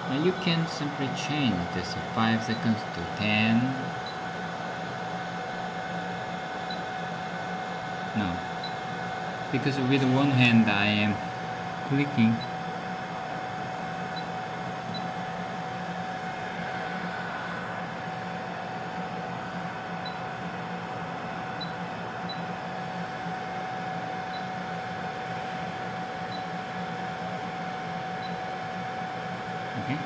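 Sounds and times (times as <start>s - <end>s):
constant hum tone: 0.0s - 30.0s
fan whir: 0.0s - 30.0s.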